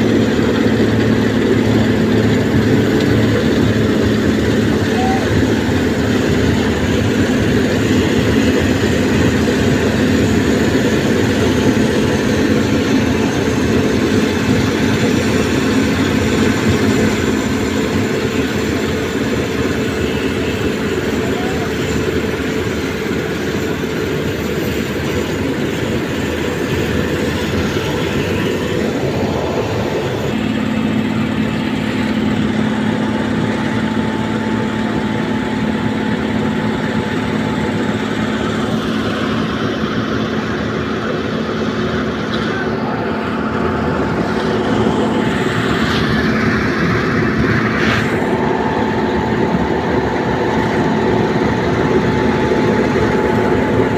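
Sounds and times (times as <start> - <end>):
droning engine hum: 0.0 - 53.9.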